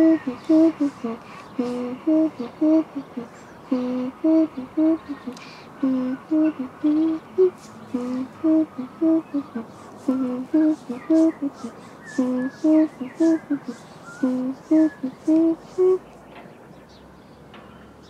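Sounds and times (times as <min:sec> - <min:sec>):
person humming dance tune: 0:00.0 - 0:16.1.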